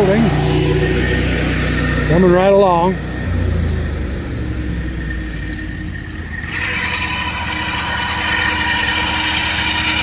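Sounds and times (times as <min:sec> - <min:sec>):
engine running: 0:00.0 - 0:10.0
high steady whine: 0:00.0 - 0:10.0.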